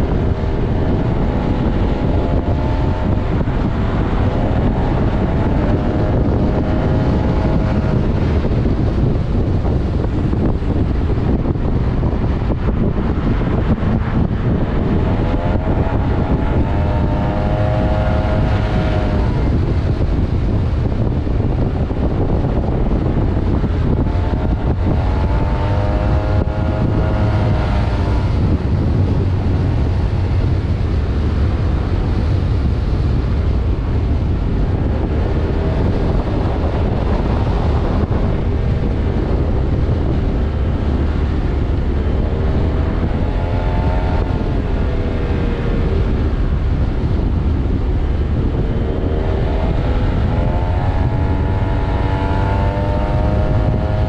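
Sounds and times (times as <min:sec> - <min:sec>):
motorcycle engine at speed: 0:00.0 - 0:54.0
wind rush on microphone: 0:00.0 - 0:54.0.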